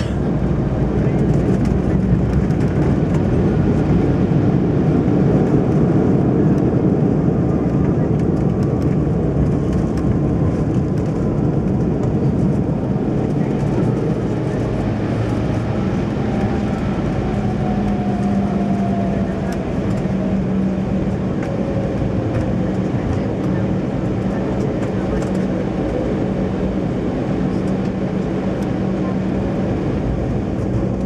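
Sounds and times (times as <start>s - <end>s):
airliner engines and wheels rumbling: 0.0s - 31.0s.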